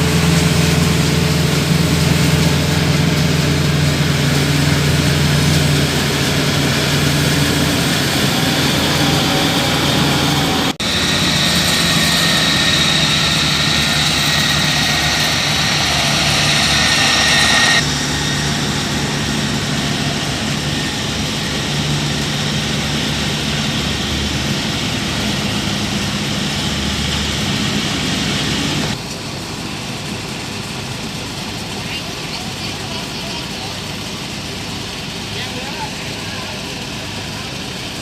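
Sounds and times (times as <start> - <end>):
combine harvester engines running: 0.0 - 38.0.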